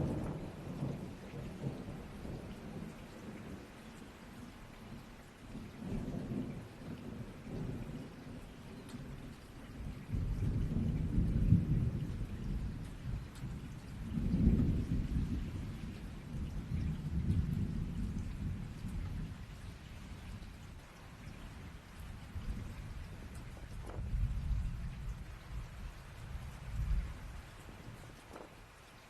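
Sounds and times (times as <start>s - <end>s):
rolling thunder: 0.0s - 3.7s, 5.5s - 28.7s
steady rain: 0.0s - 29.0s.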